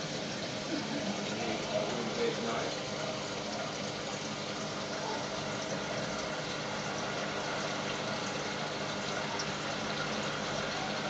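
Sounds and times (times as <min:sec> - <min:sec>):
low pump hum: 0:00.0 - 0:11.0.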